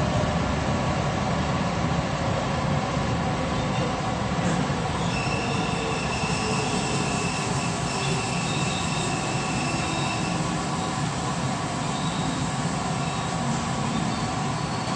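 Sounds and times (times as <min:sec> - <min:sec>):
train running noise: 0:00.0 - 0:14.9.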